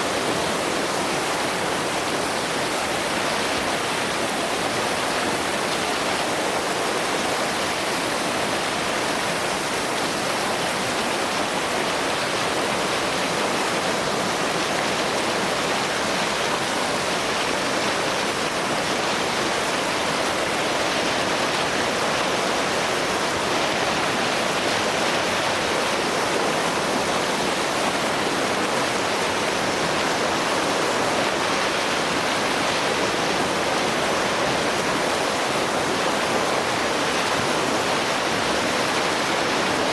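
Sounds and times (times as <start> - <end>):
water roaring over rapids: 0.0 - 39.9.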